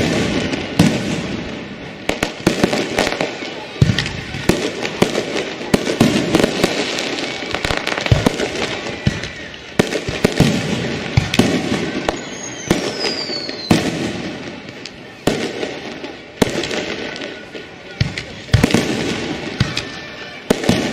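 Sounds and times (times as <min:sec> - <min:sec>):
firework bangs: 0:00.0 - 0:20.9
firework crackling: 0:00.0 - 0:20.9
whistling firework: 0:00.0 - 0:20.9.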